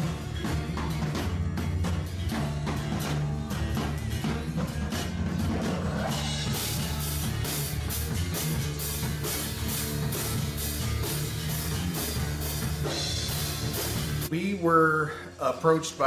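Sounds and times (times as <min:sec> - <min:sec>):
acoustic guitar: 0:00.0 - 0:14.3
drum and cymbal hits: 0:00.0 - 0:14.3
bass guitar: 0:00.0 - 0:16.0.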